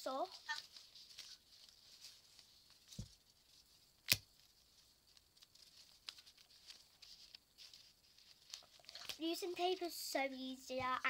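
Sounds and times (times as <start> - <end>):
paper and tape rustling: 0.0 - 11.0.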